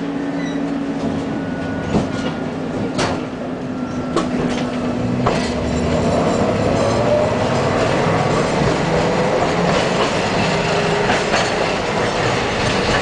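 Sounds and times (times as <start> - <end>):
steady tram hum: 0.0 - 13.0
tram wheels clacking over rail joints: 0.4 - 13.0.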